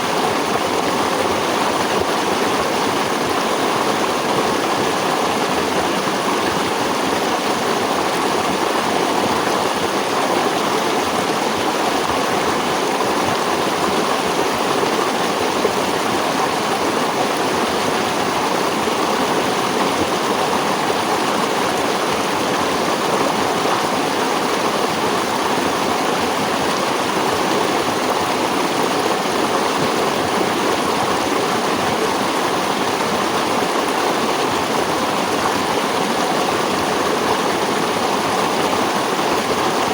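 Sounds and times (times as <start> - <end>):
stream water running and splashing: 0.0 - 39.9.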